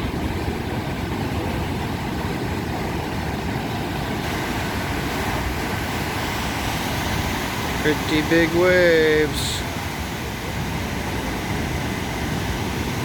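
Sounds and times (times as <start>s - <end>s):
heavy ocean surf: 0.0s - 13.0s.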